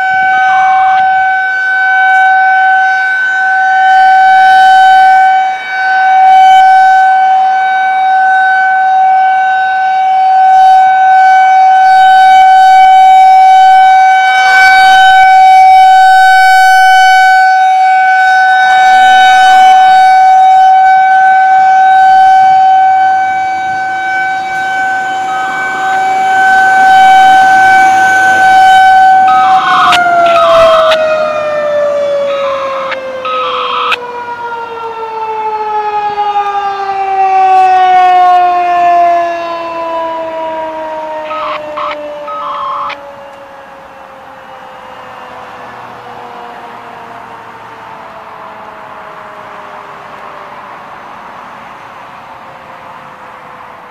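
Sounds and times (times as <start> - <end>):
rotating civil defense siren: 0.0 - 53.9.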